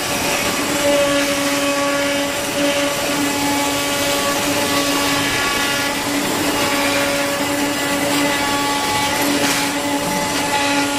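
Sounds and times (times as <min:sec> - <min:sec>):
cutting machine whine: 0:00.0 - 0:10.9.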